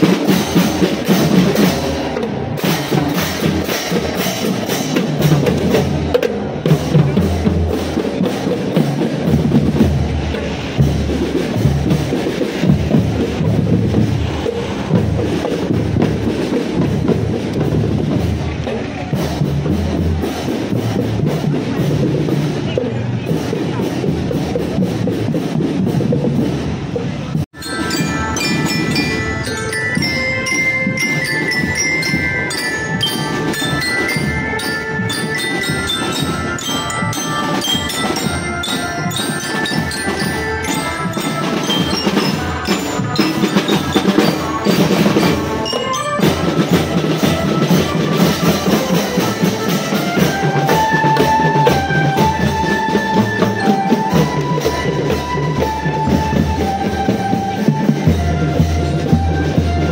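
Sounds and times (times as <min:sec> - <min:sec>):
mallet percussion melody: 0:00.0 - 0:59.9
steady drumming: 0:00.0 - 0:59.9.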